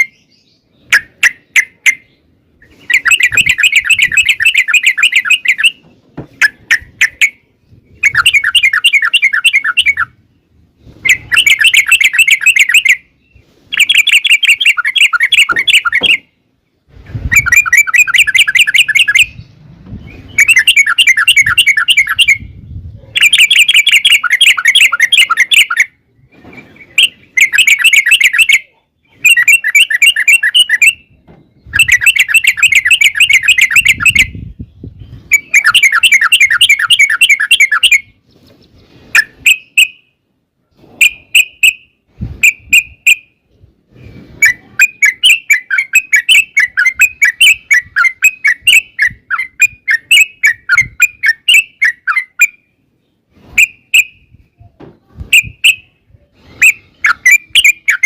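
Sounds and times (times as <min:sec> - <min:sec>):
bulbul chattering song: 0:00.0 - 0:26.1, 0:26.8 - 0:38.2, 0:44.3 - 0:54.5, 0:55.3 - 0:58.0.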